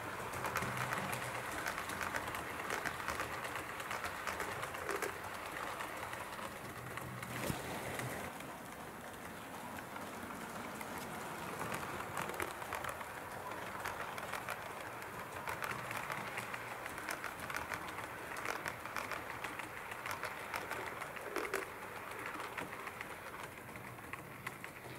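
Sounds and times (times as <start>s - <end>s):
model train rumbling: 0.0s - 24.9s
wheels clicking over rail joints: 0.0s - 24.9s.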